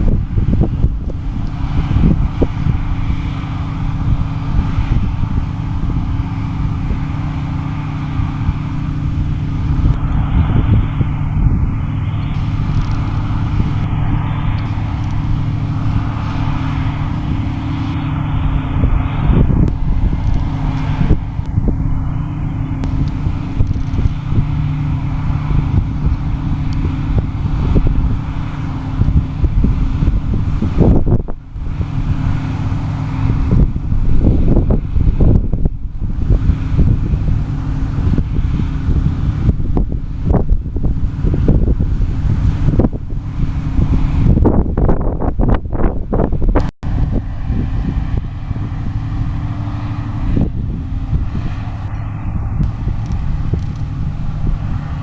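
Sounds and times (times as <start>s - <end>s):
diesel engine droning: 0.0s - 55.0s
wind buffeting microphone: 0.0s - 55.0s.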